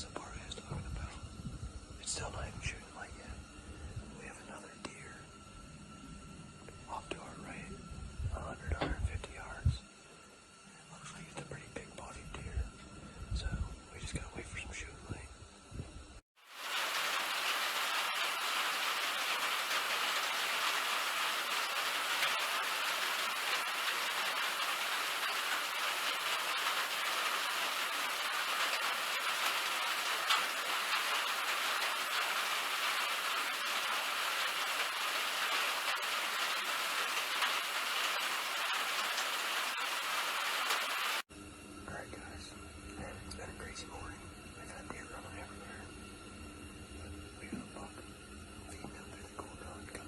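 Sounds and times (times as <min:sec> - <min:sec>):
steady hiss: 0:00.0 - 0:50.0.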